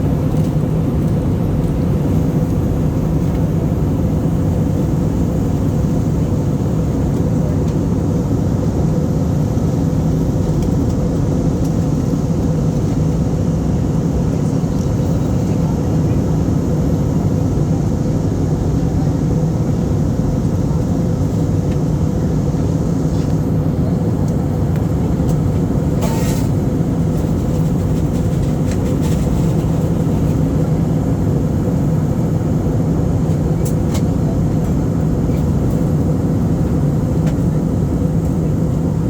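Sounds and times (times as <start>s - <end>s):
airliner cabin engine drone: 0.0s - 39.0s.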